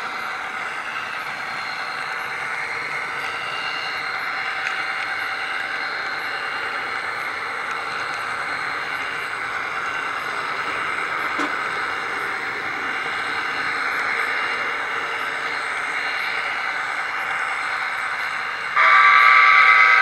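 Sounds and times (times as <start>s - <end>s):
model train wheels and motor: 0.0s - 20.0s.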